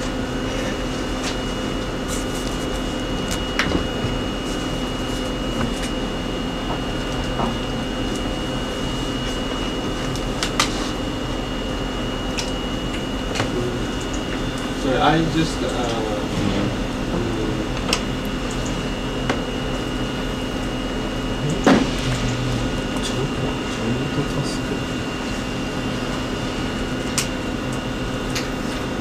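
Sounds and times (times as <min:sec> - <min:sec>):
room hum and hiss: 0:00.0 - 0:29.0.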